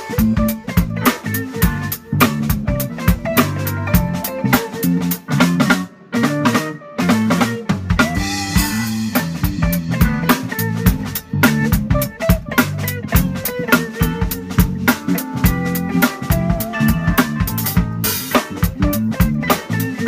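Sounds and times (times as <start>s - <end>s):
drums steady beat: 0.0s - 20.0s
keyboard chords: 0.0s - 20.0s.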